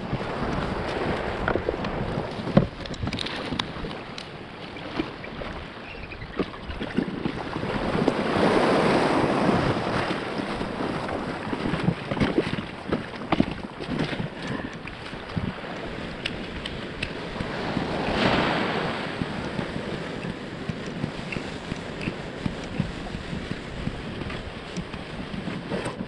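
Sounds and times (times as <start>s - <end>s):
splashing in shallow water: 0.0s - 26.0s
water sloshing against kayak hull: 0.0s - 26.0s
wind buffeting microphone: 0.0s - 26.0s.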